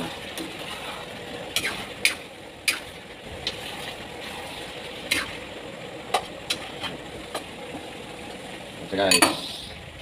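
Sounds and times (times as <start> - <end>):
cooking hiss: 0.0 - 9.9.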